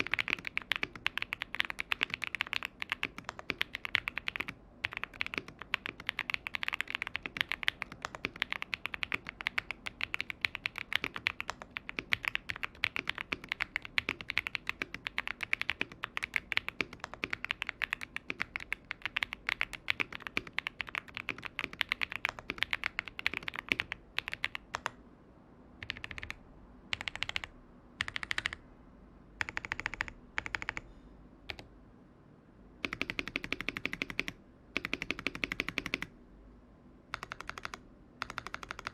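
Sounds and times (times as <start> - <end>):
typing on mechanical keyboard: 0.0 - 25.0, 25.8 - 28.6, 29.4 - 30.9, 32.8 - 36.1, 37.1 - 38.9.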